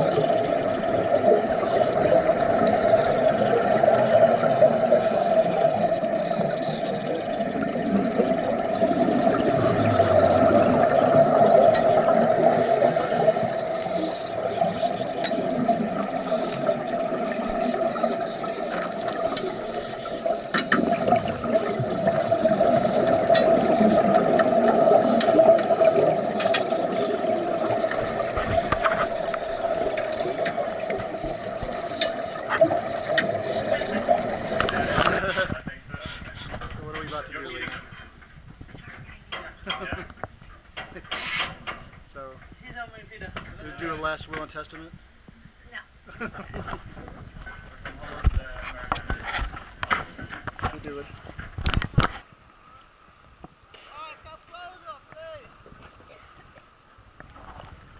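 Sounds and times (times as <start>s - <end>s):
regulator bubbles gurgling: 0.0s - 44.9s, 46.1s - 52.1s
steady underwater hum: 0.0s - 57.9s.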